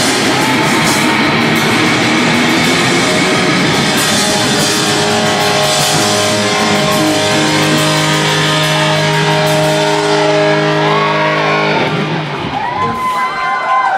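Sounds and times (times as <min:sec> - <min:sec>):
crowd cheering: 0:00.0 - 0:13.9
live rock band: 0:00.0 - 0:13.9.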